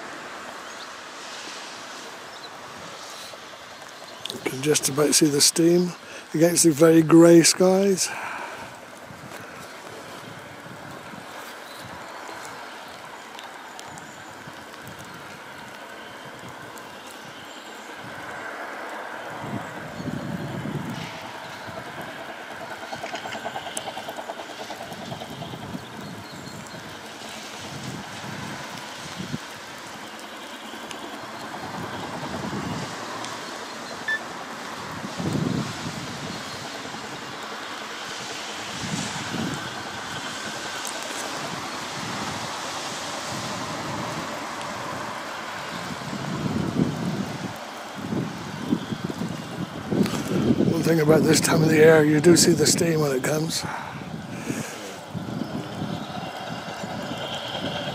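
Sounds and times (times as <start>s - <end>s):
distant steam train: 0.0s - 57.9s
rain hiss: 0.0s - 57.9s
wind buffeting microphone: 2.1s - 57.9s.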